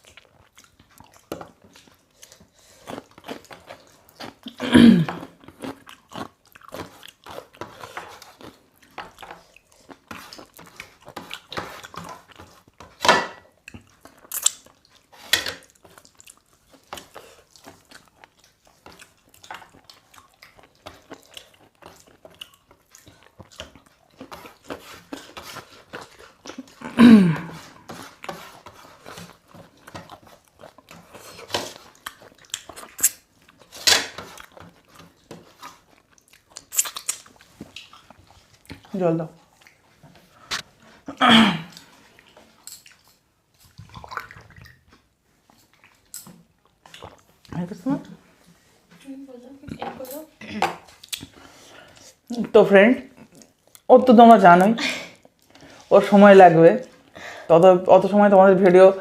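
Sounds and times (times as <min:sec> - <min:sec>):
people chewing: 0:00.0 - 0:59.0.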